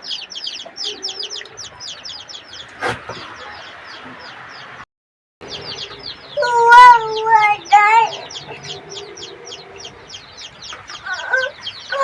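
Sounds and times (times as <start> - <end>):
chicks peeping: 0.0 - 4.8, 5.4 - 12.0.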